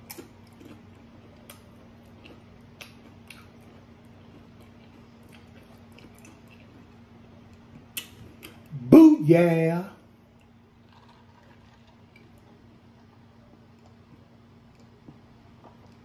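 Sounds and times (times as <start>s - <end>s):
person chewing: 0.0s - 8.7s, 10.3s - 16.0s
low steady hum: 0.0s - 16.0s.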